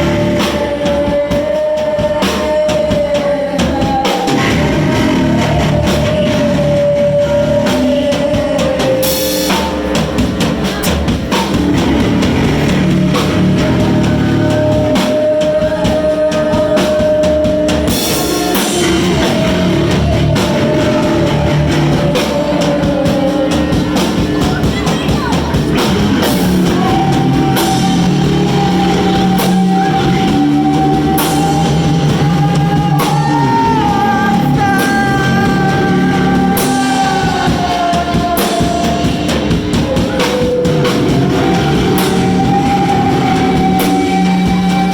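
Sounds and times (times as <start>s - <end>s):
long held notes: 0.0s - 44.9s
rock band playing live: 0.0s - 44.9s.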